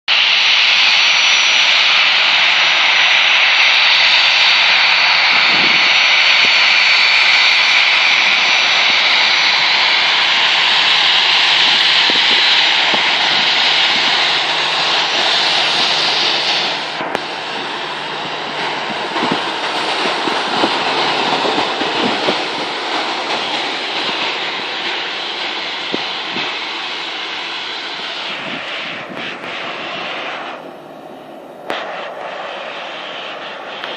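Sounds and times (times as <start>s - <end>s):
airplane engines taking off: 0.1s - 33.9s.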